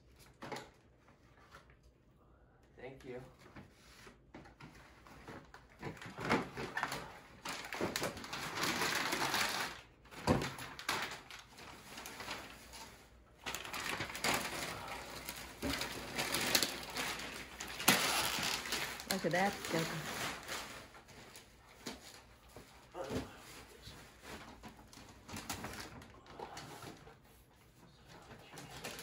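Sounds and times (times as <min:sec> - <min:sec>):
wrapping paper rustling: 0:03.6 - 0:29.0.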